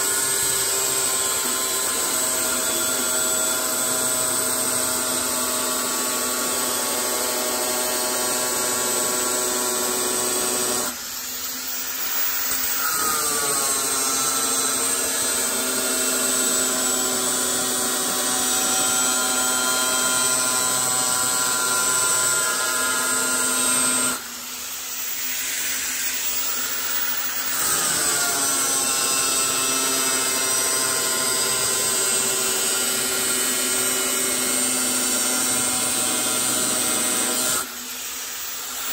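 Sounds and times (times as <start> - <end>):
angle grinder cutting steel: 0.0 - 38.9.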